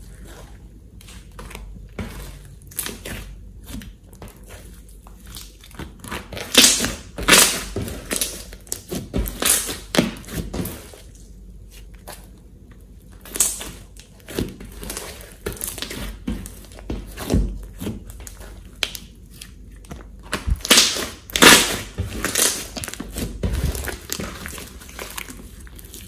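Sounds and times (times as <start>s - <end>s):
slime squishing: 0.0s - 26.0s.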